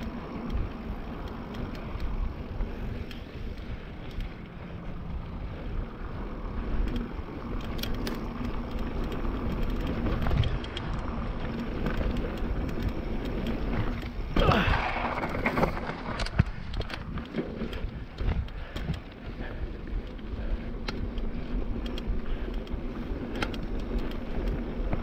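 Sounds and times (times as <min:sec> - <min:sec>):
bike rattling and clicking: 0:00.0 - 0:25.0
tyres crunching on dirt: 0:00.0 - 0:25.0
wind buffeting microphone: 0:00.0 - 0:25.0.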